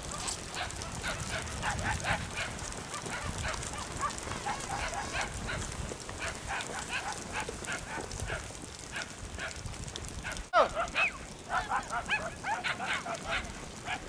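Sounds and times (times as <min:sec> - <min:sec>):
dogs barking and yipping: 0:00.0 - 0:14.0.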